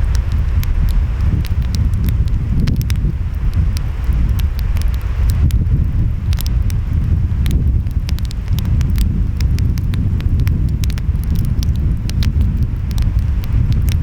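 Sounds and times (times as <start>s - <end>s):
surf rumbling: 0.0s - 14.0s
wind: 0.0s - 14.0s
wood fire crackling and popping: 0.0s - 14.0s.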